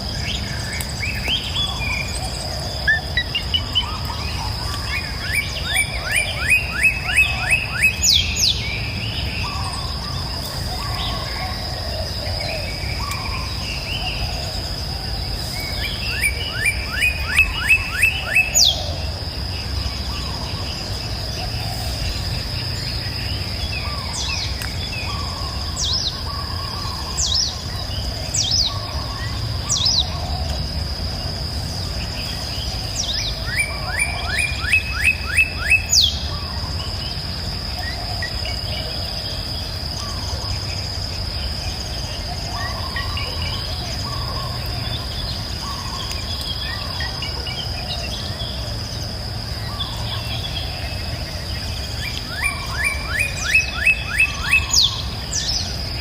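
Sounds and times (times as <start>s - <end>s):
high insect drone: 0.0s - 56.0s
sharp down-slurred bird calls: 0.0s - 56.0s.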